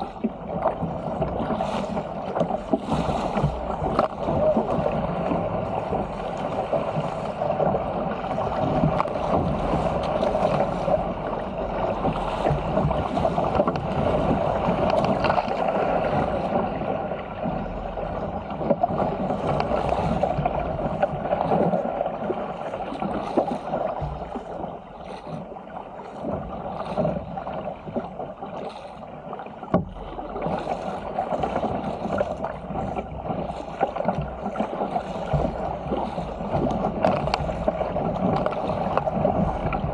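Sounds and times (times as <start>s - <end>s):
paddle strokes slapping water: 0.0s - 39.9s
water rushing along a hull: 0.0s - 39.9s.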